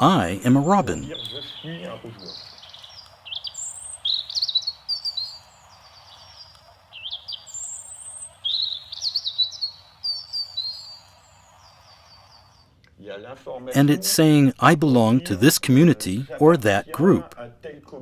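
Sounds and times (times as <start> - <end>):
robin singing: 0.0 - 12.6, 13.8 - 17.6.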